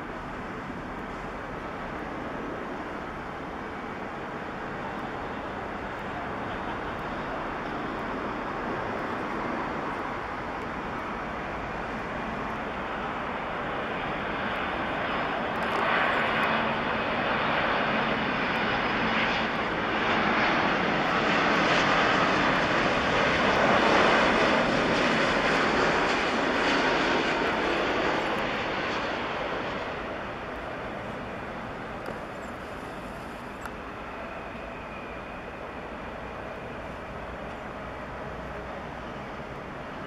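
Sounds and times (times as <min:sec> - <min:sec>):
jet engines roaring overhead: 0:00.0 - 0:40.0.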